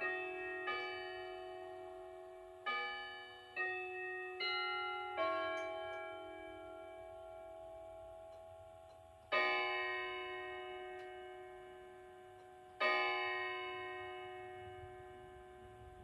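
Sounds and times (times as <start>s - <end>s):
clock striking: 0.0s - 16.0s.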